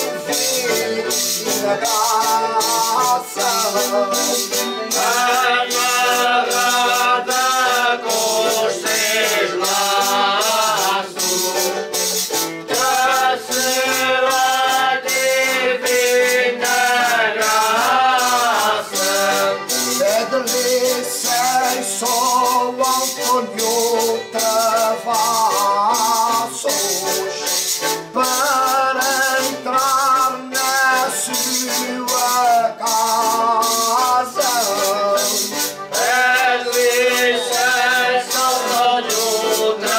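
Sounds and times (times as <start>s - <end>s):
men singing in unison: 0.0s - 12.0s, 12.6s - 39.9s
shaken jingling percussion: 0.0s - 39.9s.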